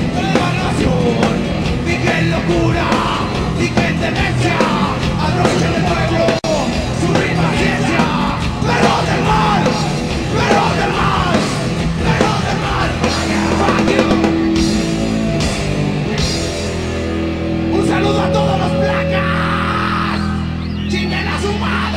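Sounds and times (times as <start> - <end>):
shouted vocals: 0.0 - 14.8, 17.7 - 21.9
heavy metal band playing: 0.0 - 21.9.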